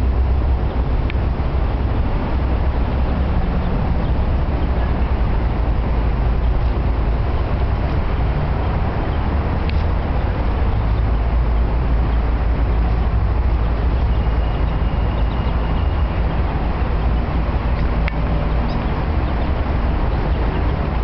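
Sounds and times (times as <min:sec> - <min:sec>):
low rumble of road traffic: 0:00.0 - 0:21.0.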